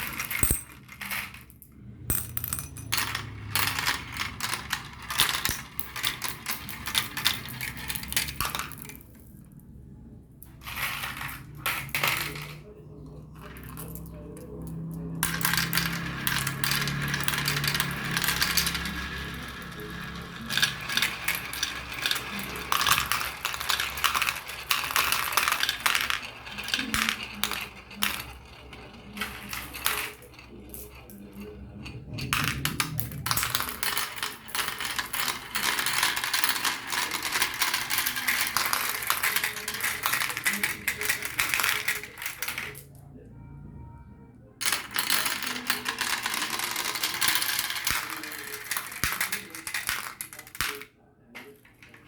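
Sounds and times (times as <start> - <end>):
marbles clattering down a run: 0.0 - 9.2, 10.6 - 42.9, 44.6 - 50.9.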